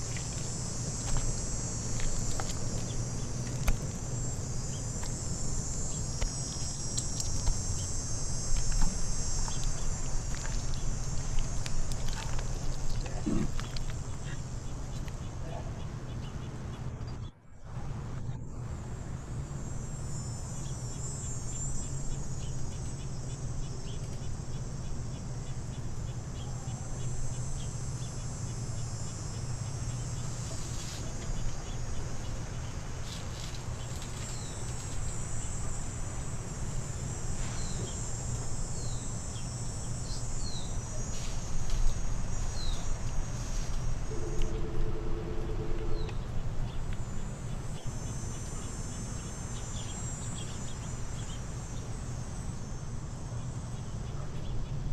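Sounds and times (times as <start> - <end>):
insects chirring high-pitched: 0.0 - 16.4, 18.4 - 54.9
low steady hum: 0.0 - 54.9.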